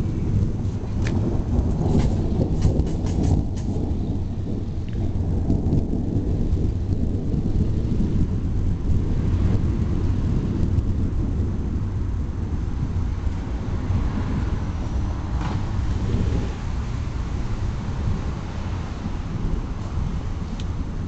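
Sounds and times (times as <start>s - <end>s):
distant thunder rumbling: 0.0s - 21.0s.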